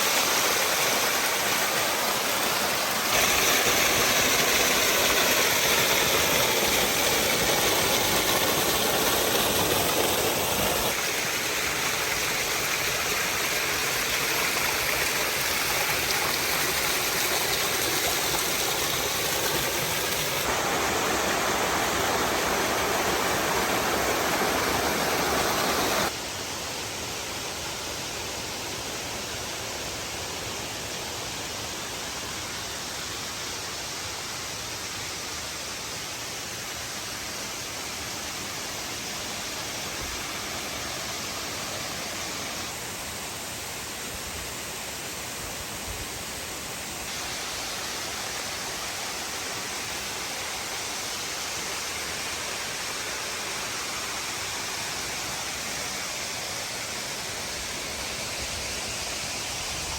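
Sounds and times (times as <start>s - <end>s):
water rushing: 0.0s - 26.2s, 36.1s - 59.9s.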